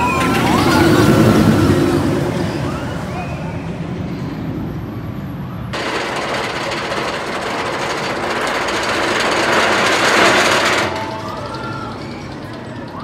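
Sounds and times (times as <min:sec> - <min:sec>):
roller coaster roaring on track: 0:00.0 - 0:13.0.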